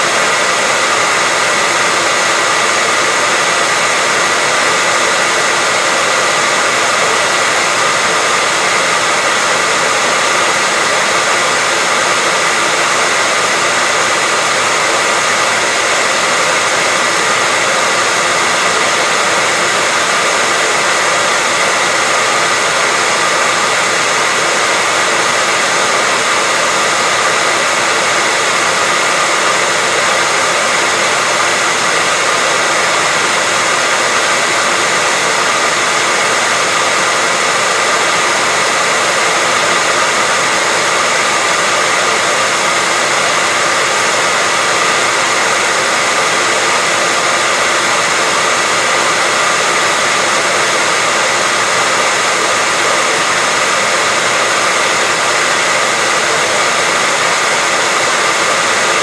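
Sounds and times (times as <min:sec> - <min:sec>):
hairdryer running: 0:00.0 - 0:59.0.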